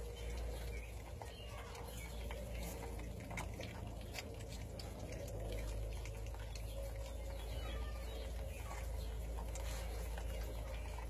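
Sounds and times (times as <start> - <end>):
puppies lapping and slurping: 0.0 - 11.0.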